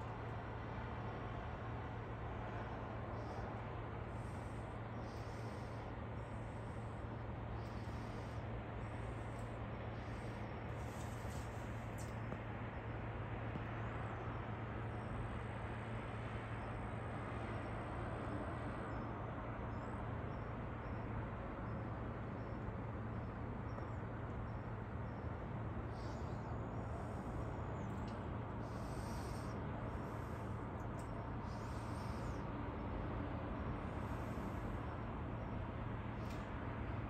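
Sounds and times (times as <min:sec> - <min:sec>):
distant city traffic drone: 0:00.0 - 0:37.0.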